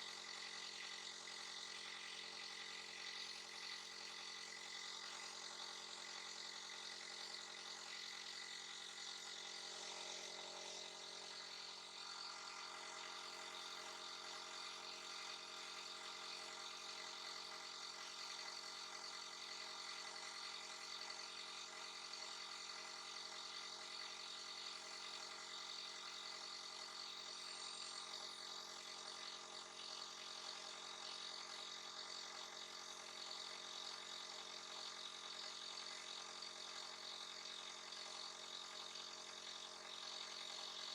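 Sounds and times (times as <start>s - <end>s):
small motor humming: 0.0s - 40.9s.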